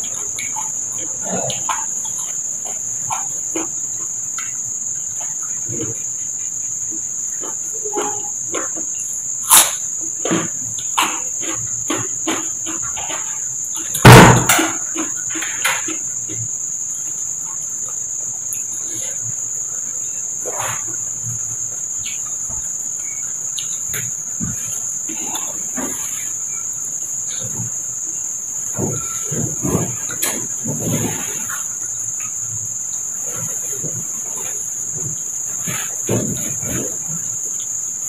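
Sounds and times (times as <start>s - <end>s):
crunchy chewing of cucumber: 0.0s - 38.0s
high-pitched insect drone: 0.0s - 38.0s.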